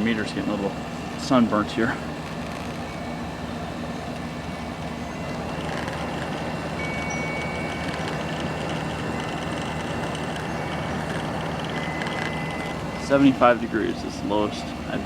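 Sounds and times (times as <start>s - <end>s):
air conditioner compressor humming: 0.0s - 15.0s.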